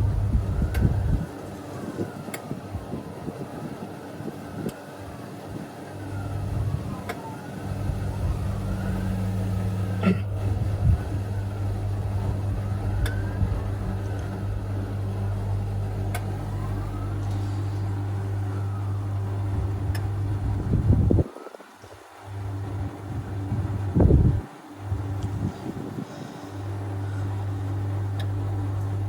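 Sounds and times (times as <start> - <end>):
washing machine motor humming: 0.0 - 29.0.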